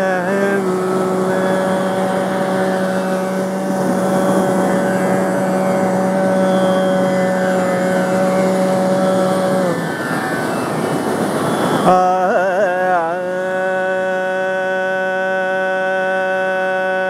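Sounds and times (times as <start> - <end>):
ocean surf: 0.0 - 14.5
man singing long note: 0.0 - 17.0
tambura drone: 0.0 - 17.0.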